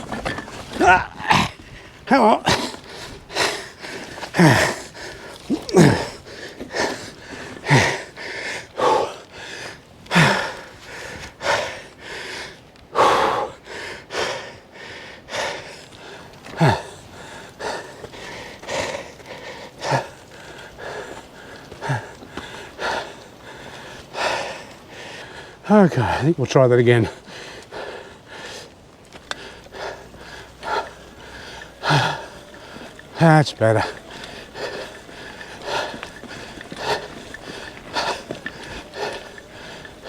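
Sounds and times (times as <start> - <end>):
person breathing hard and gasping: 0.0 - 26.2, 27.1 - 40.0.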